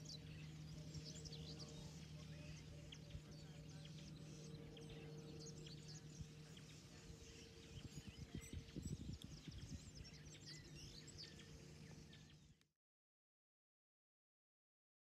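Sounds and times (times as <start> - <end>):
small birds chirping: 0.0 - 12.6
steady low hum: 0.0 - 12.6.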